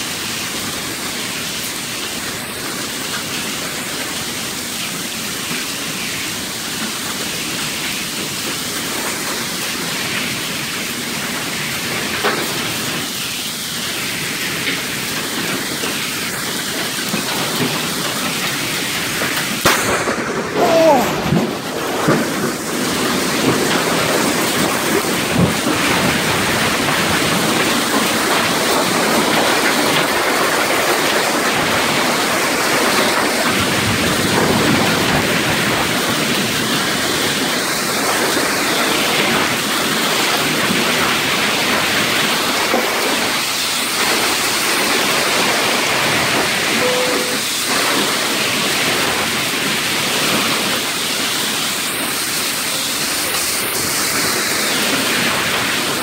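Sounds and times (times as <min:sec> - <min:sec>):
torrential rain and hail: 0:00.0 - 0:56.0.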